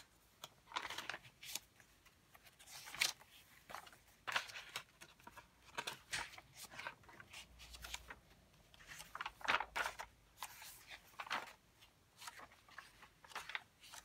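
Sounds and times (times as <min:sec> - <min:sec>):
paper pages being turned: 0:00.0 - 0:14.0.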